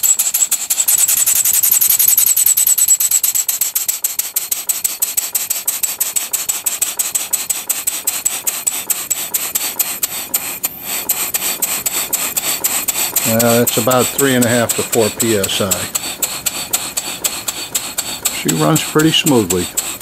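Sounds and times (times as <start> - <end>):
steam engine hissing exhaust puffs: 0.0 - 20.0.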